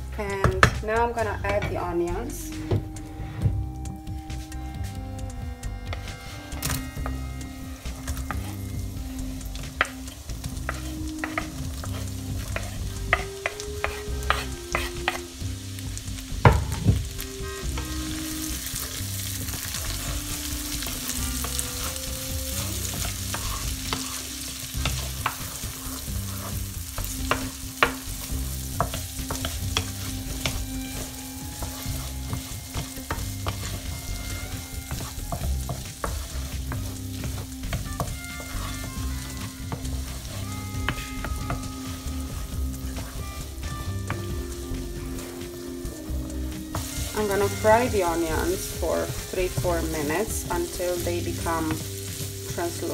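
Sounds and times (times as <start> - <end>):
onions sizzling in a pan: 0.0 - 52.9
spatula scraping a pan: 4.4 - 52.9.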